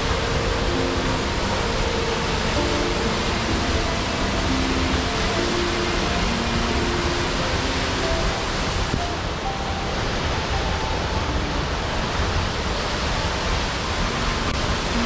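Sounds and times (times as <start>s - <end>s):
rushing water: 0.0s - 15.0s
soft held music notes: 0.0s - 15.0s.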